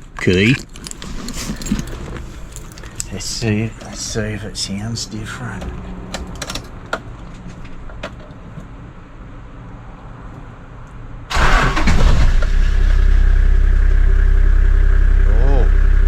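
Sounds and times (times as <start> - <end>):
engine cranking and idling: 0.0 - 8.6, 11.3 - 16.0.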